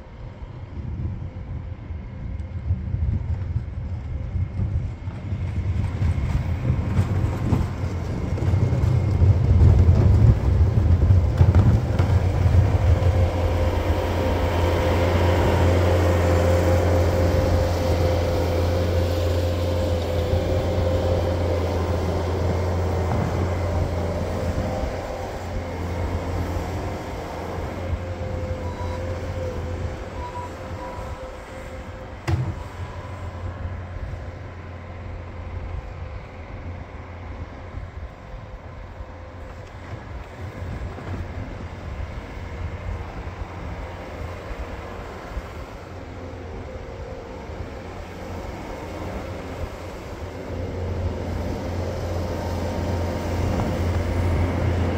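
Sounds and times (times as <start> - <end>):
loader diesel engine running: 0.0 - 54.9
steady machine whine: 0.0 - 54.9.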